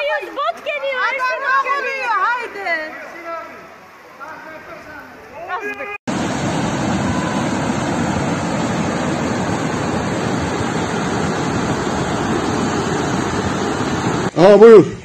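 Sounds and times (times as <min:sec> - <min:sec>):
rushing floodwater: 0:00.0 - 0:14.5.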